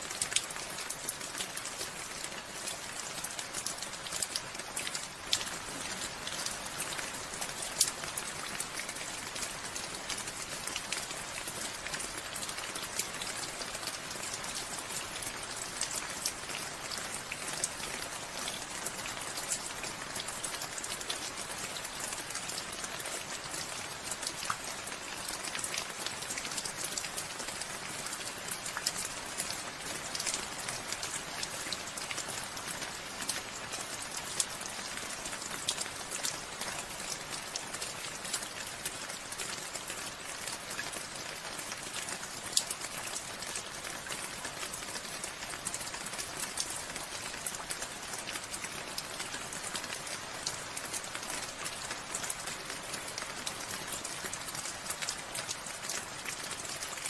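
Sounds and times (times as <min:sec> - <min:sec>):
raindrops ticking on a surface: 0:00.0 - 0:57.0.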